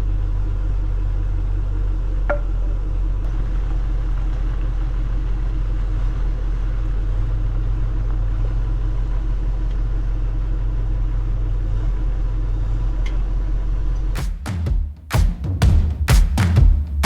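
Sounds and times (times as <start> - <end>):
low engine rumble: 0.0 - 14.9.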